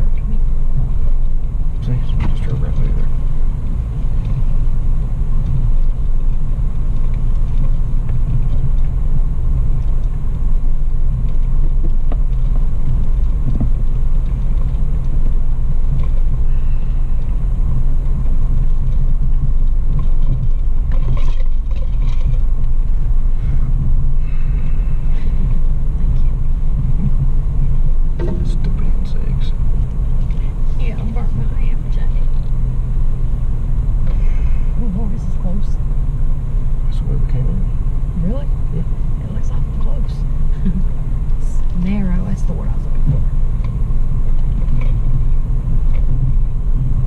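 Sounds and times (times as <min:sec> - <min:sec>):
engine and tyres rumbling: 0:00.0 - 0:47.0.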